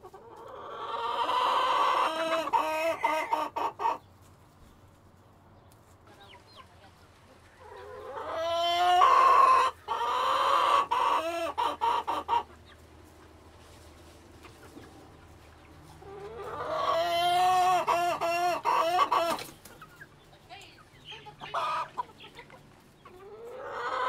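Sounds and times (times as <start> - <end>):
chicken calling: 0.0 - 4.1, 7.4 - 13.4, 14.3 - 24.0.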